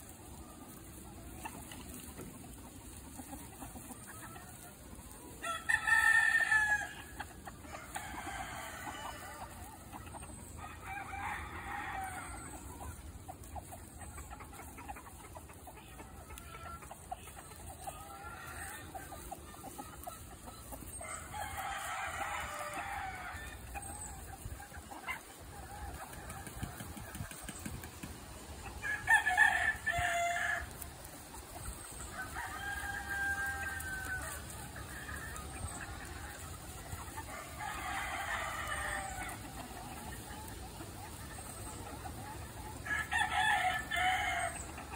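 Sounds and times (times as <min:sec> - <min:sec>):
chickens clucking: 0:00.0 - 0:44.9
roosters crowing: 0:03.9 - 0:13.2, 0:16.1 - 0:44.9.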